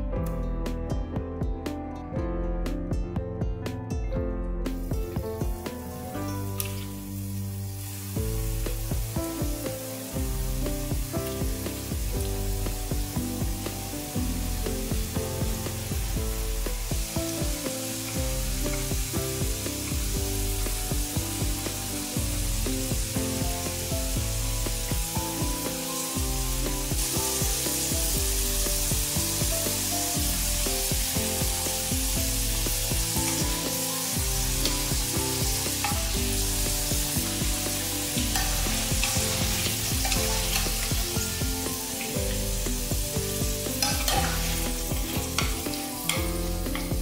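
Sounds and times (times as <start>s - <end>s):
background music: 0.0s - 47.0s
food deep-frying in oil: 4.7s - 47.0s.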